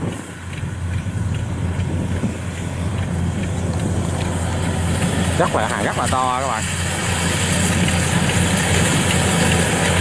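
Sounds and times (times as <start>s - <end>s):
combine harvester engine droning: 0.0s - 10.0s.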